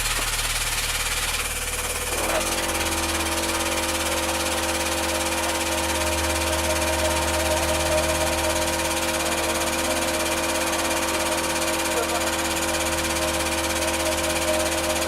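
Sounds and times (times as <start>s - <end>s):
hydraulic pump motor humming: 0.0s - 15.0s.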